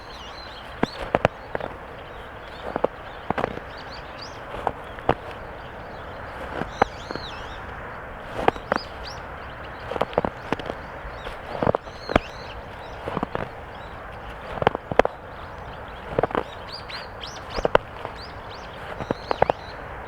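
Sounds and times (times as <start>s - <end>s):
footsteps crunching in snow: 0.0s - 20.0s.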